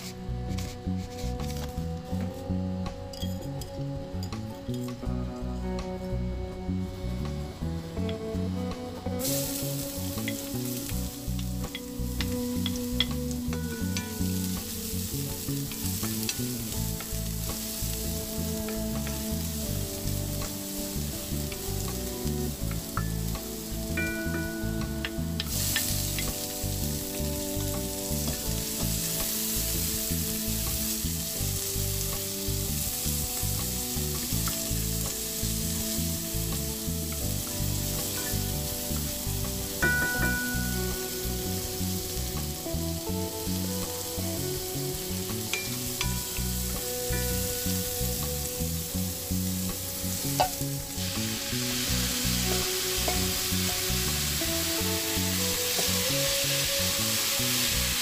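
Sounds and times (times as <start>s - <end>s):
garlic sizzling in hot oil: 0.0s - 58.0s.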